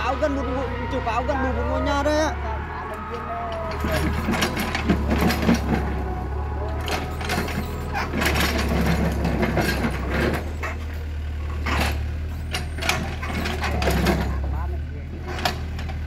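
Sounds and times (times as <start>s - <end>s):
excavator diesel engine running: 0.0s - 16.0s
tracks and bucket clanking: 0.0s - 16.0s.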